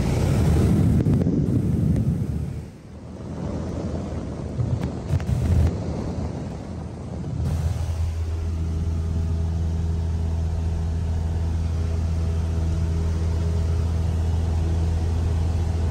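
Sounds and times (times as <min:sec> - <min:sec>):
light aircraft engine drone: 0:00.0 - 0:15.9.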